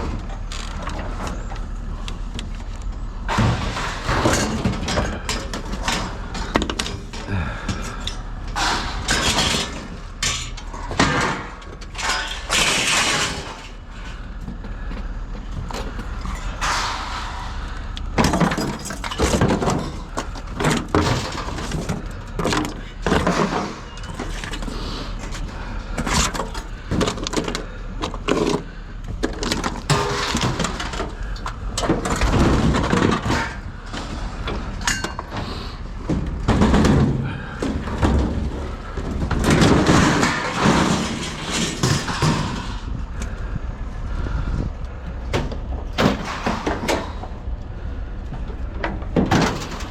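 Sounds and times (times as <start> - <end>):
steady low hum: 0.0 - 49.9
scrap metal crashing and clanking: 3.2 - 43.3, 45.3 - 47.5, 48.4 - 49.9.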